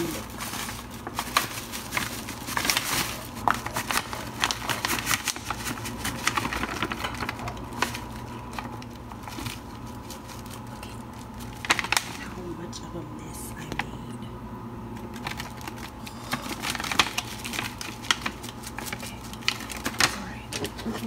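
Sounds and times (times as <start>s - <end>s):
plastic pouch crinkling: 0.0s - 12.4s, 15.0s - 21.0s.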